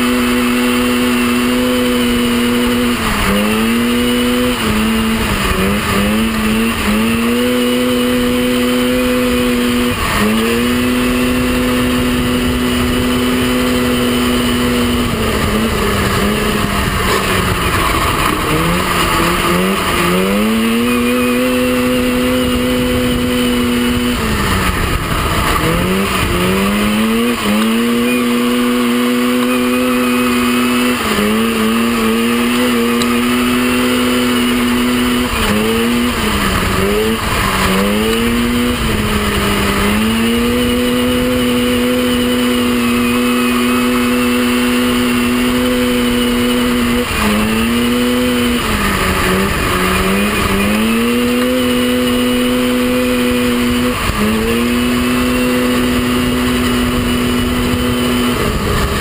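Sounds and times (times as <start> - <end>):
buggy engine running at high revs: 0.0 - 59.0
constant rush of noise: 0.0 - 59.0.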